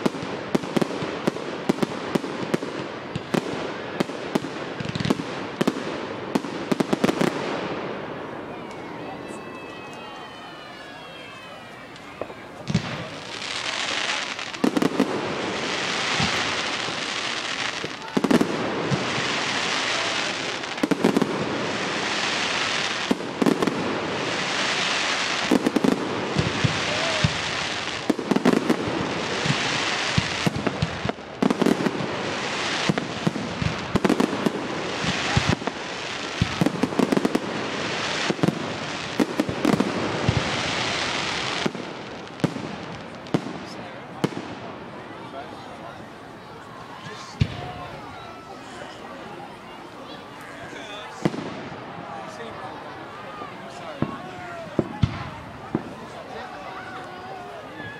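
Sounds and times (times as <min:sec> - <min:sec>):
continuous hiss: 0:00.0 - 0:57.9
fireworks bangs: 0:00.0 - 0:57.9.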